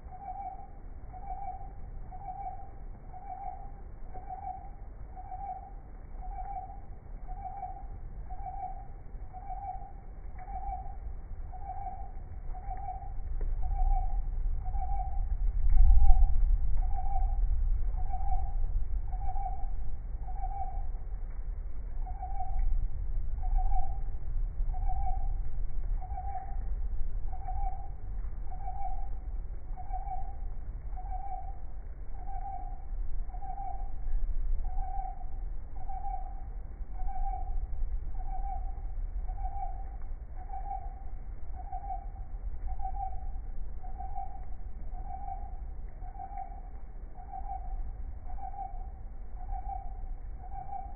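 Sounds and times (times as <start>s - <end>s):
mid-pitched hooting tone: 0.0s - 21.1s, 22.0s - 50.9s
low rumble: 0.0s - 50.9s.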